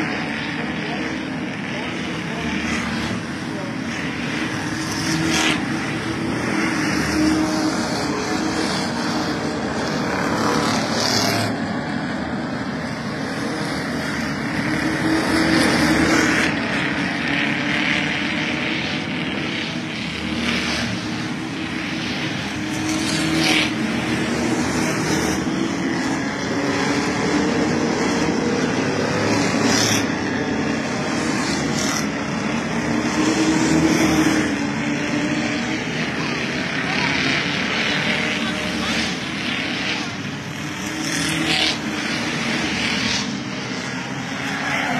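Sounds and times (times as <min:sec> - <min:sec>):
stock car engines racing: 0:00.0 - 0:44.9.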